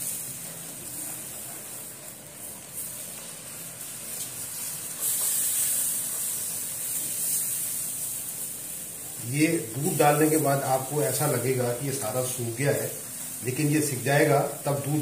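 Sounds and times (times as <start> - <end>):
flour sizzling in hot fat: 0.0 - 15.0.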